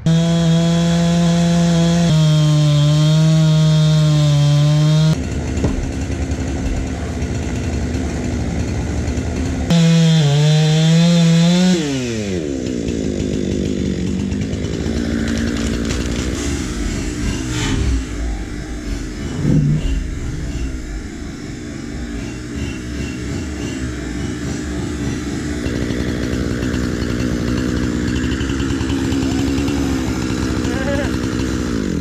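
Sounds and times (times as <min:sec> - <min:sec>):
chainsaw revving: 0:00.0 - 0:32.0.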